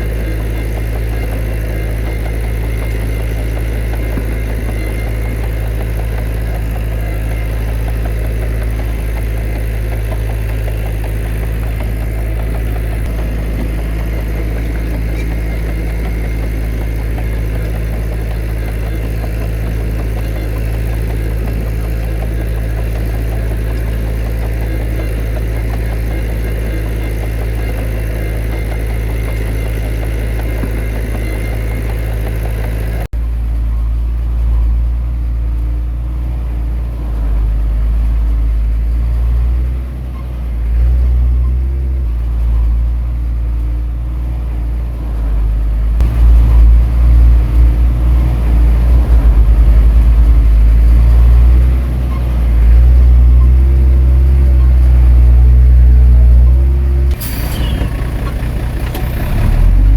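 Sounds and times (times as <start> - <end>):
heavy diesel engines working: 0.0 - 59.9.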